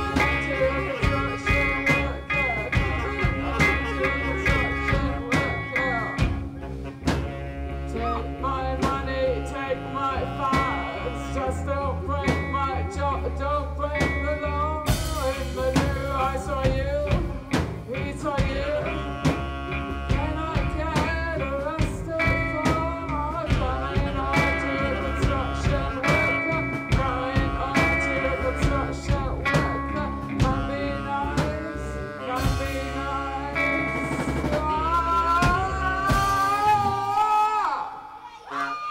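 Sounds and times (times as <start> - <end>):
drum kit: 0.0 - 9.3, 10.0 - 13.4, 14.0 - 37.7
lead melody line: 0.0 - 37.2
electric guitar: 0.0 - 38.9.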